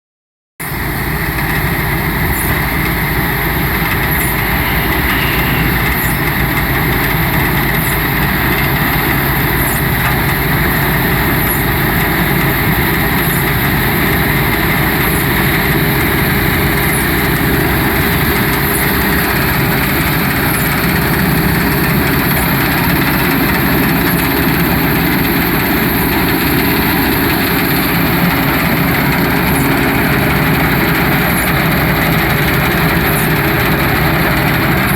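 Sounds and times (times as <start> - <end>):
combine harvester droning: 0.6 - 34.9.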